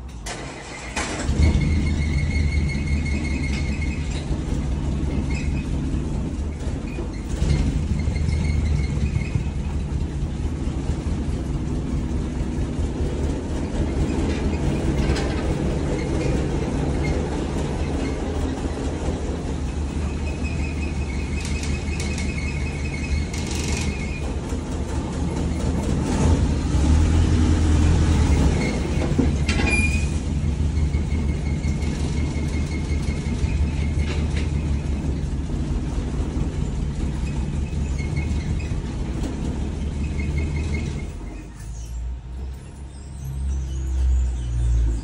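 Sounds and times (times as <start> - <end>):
vehicle engine droning: 0.0 - 45.0
high-pitched drivetrain whine: 0.2 - 45.0.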